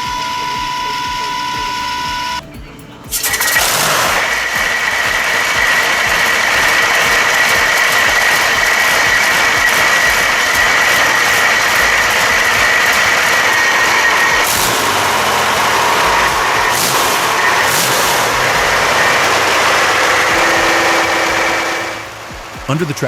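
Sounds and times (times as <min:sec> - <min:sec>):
engine running with clatter: 0:00.0 - 0:23.0
steady high whine: 0:00.0 - 0:23.0.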